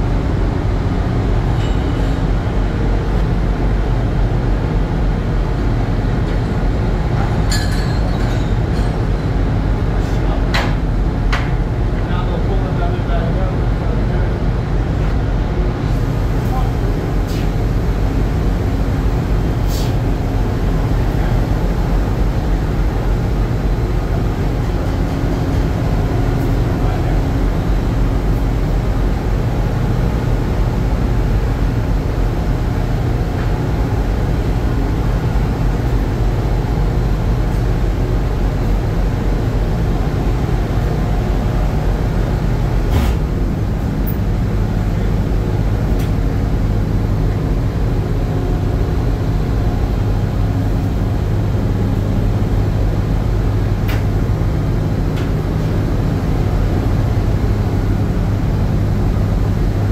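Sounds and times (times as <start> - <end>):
deck machinery: 0.0 - 59.9
ship engines low drone: 0.0 - 59.9.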